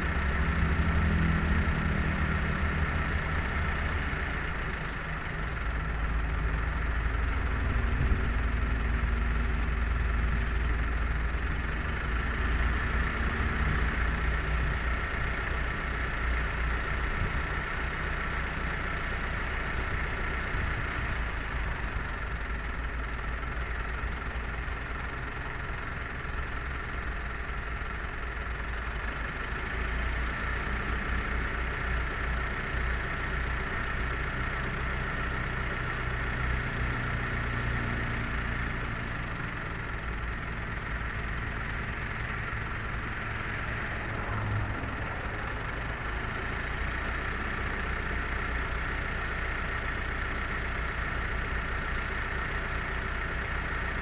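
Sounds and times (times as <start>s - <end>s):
engine-like low rumble: 0.0s - 54.0s.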